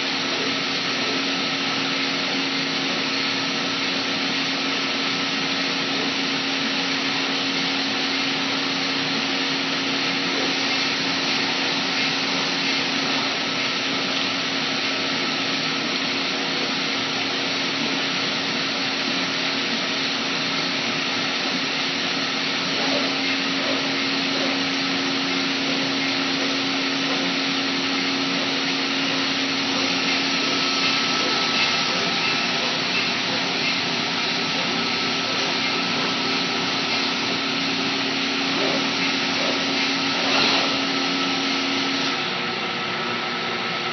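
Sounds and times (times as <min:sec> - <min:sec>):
high machine whine: 0:00.0 - 0:43.9
router machine hum: 0:00.0 - 0:43.9.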